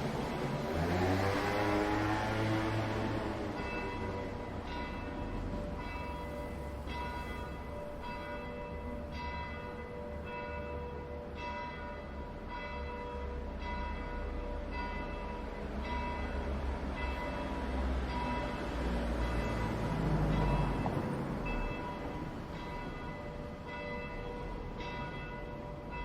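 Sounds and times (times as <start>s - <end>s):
bells ringing in a peal: 2.9s - 26.0s.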